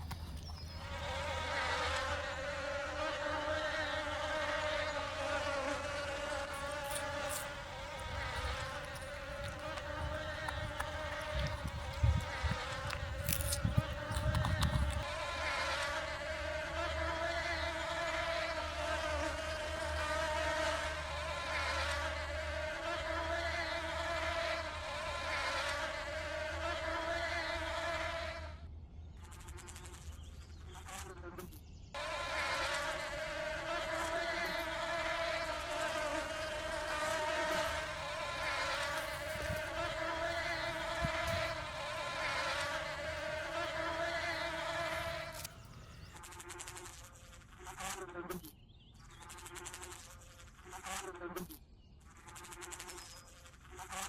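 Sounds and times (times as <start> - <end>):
bees buzzing: 0.0 - 28.4, 32.0 - 48.4.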